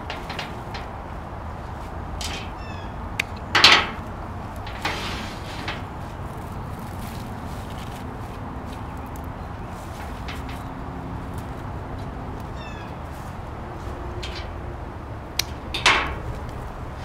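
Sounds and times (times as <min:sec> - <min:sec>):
flowers and leaves rustling: 0:00.0 - 0:17.0.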